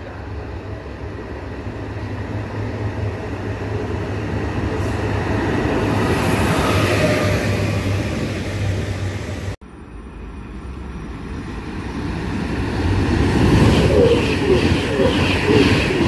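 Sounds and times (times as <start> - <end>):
approaching train rumble: 0.0 - 16.0
train running through station: 0.0 - 16.0.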